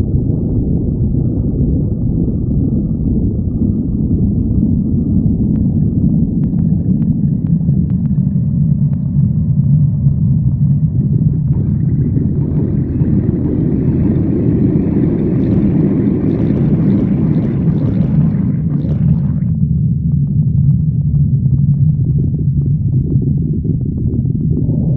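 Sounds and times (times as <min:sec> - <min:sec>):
stomach growling: 0:00.8 - 0:24.9.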